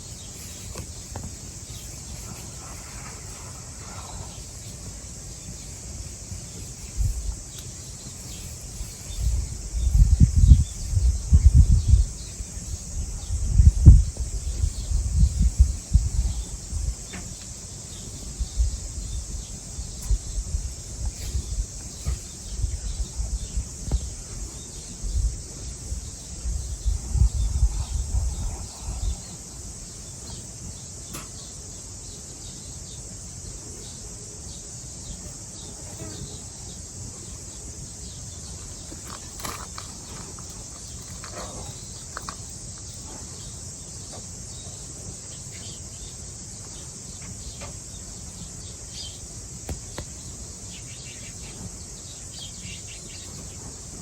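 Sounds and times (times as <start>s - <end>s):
high insect trill: 0.0s - 54.0s.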